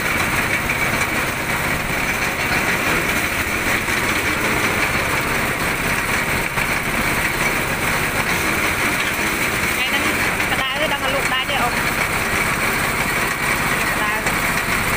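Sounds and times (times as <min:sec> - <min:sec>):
small engine running: 0:00.0 - 0:14.9.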